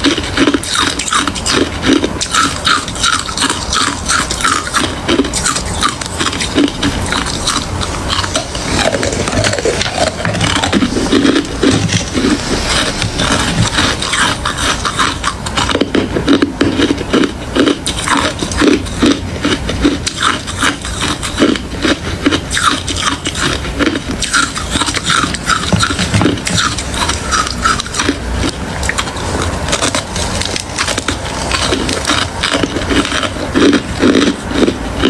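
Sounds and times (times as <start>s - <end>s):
person chewing ice crunches: 0.0s - 35.0s.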